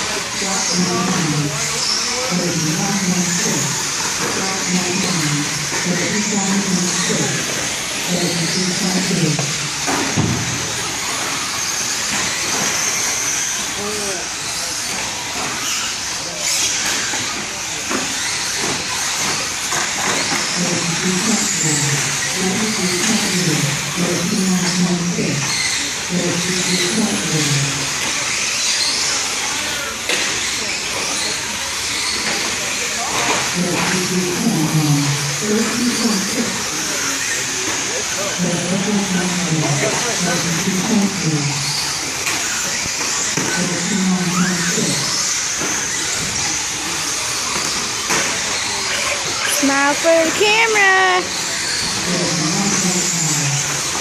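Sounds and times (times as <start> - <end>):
murmur of voices: 0.0 - 54.0
toy truck motor whine: 0.0 - 54.0.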